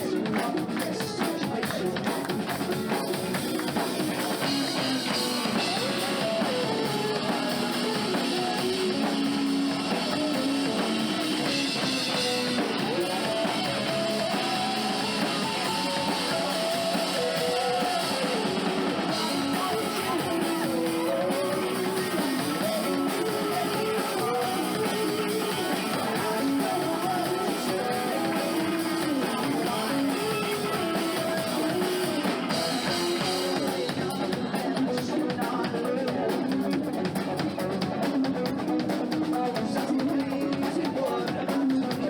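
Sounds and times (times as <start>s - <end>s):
rock band playing instrumental: 0.0s - 42.0s.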